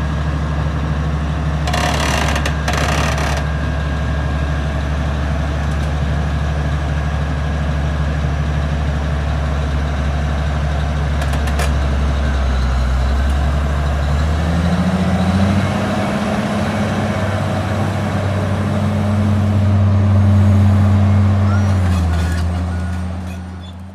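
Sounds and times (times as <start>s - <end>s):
heavy diesel engine idling: 0.0s - 23.9s.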